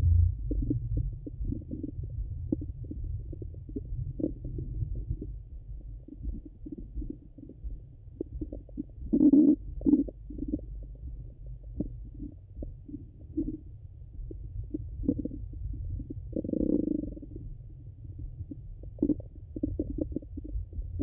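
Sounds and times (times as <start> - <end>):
stomach gurgling and clicking: 0.0 - 21.0
stomach rumbling: 0.0 - 21.0.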